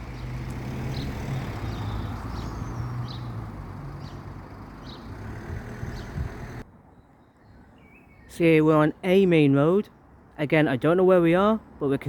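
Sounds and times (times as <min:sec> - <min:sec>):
small birds chirping: 0:00.0 - 0:10.6
road traffic rumble: 0:00.0 - 0:12.0.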